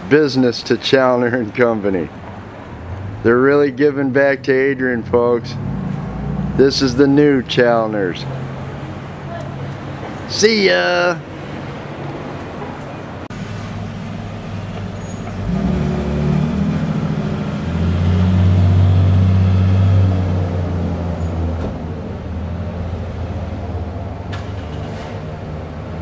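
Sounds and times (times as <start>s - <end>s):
vehicle engine passing: 1.6s - 10.3s, 11.0s - 26.0s.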